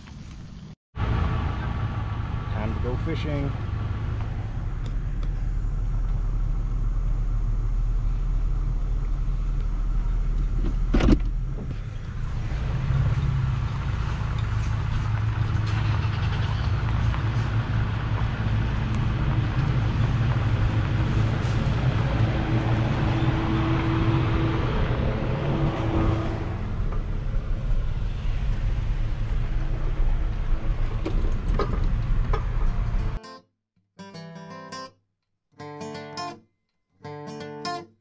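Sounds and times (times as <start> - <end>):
truck engine and tyre rumble: 0.0 - 33.2.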